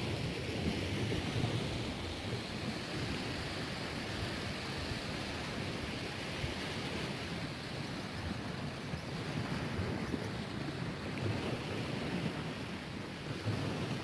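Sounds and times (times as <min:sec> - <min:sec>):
sea waves on beach: 0:00.0 - 0:14.0
wind rumbling on microphone: 0:00.0 - 0:14.0.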